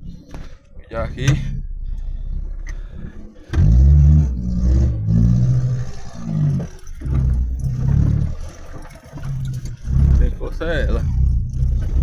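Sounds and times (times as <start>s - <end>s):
vehicle engine revving: 1.9s - 12.0s.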